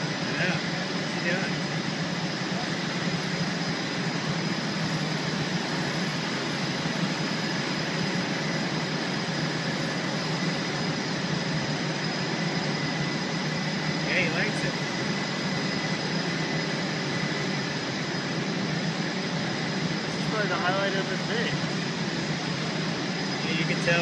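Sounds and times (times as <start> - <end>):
thin steady whine: 0.0 - 24.0.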